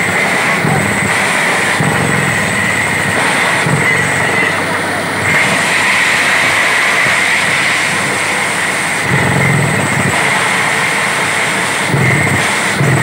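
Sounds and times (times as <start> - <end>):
drilling rig whining: 0.0 - 13.0.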